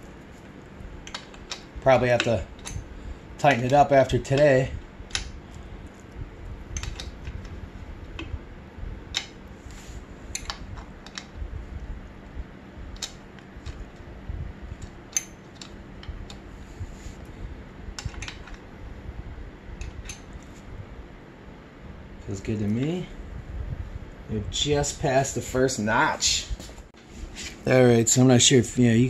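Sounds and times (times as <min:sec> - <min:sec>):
low rumble from handling: 0:00.0 - 0:29.0.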